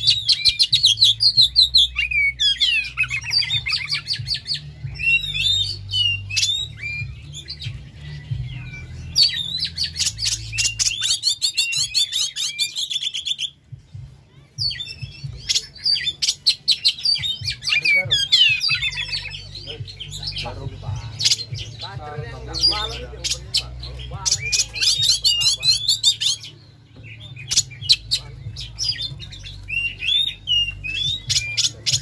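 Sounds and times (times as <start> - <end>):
bird singing chirps and trills: 0.0 - 32.0.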